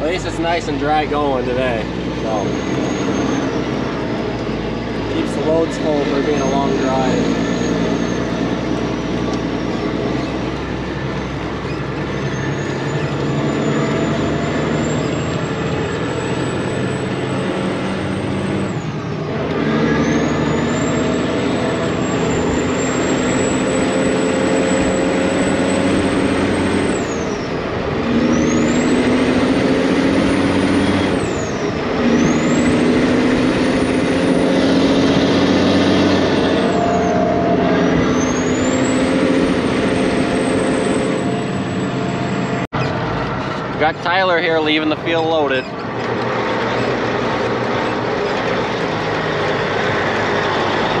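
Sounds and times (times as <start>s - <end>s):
truck engine changing gears: 0.0s - 51.0s.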